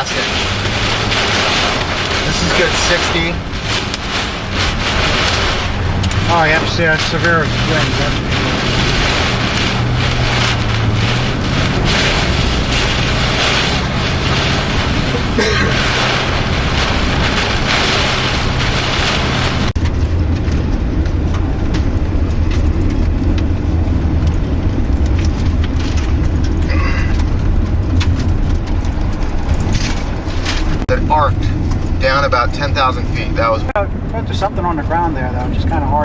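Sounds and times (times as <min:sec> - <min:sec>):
car engine and road noise: 0:00.0 - 0:36.0
storm wind and rain on car: 0:00.0 - 0:36.0.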